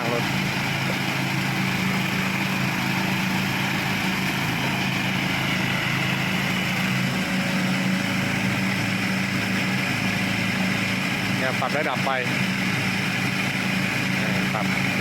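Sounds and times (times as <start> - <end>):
ride-on lawn mower engine running: 0.0 - 15.0.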